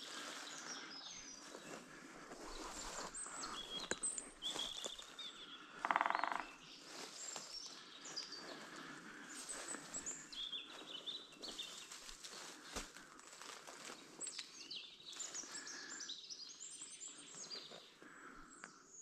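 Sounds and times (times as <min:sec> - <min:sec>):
songbirds chirping and singing: 0:00.0 - 0:19.0.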